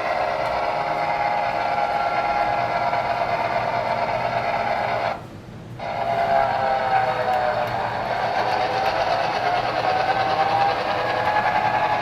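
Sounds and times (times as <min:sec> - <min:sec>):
model train whirring hum: 0:00.0 - 0:12.0.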